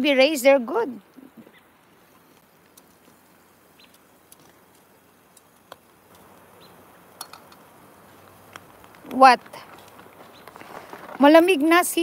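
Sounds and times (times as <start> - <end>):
charcoal and meat ticking: 1.0 - 12.0.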